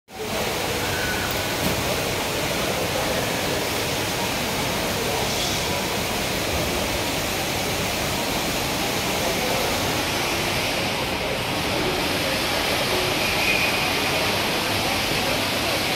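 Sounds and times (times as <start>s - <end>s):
faint murmur of voices: 0.1s - 15.9s.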